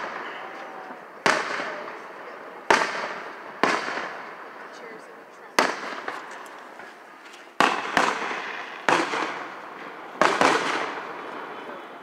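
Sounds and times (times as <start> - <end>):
firework booms with echo: 0.0 - 4.7, 5.6 - 6.4, 7.6 - 12.0.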